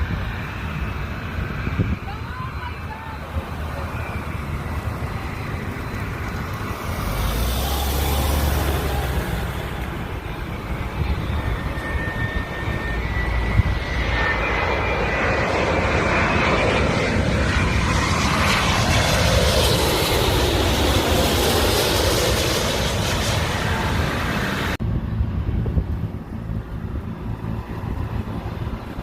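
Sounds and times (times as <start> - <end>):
airplane engines roaring: 0.0 - 29.0
high engine whine: 0.0 - 29.0.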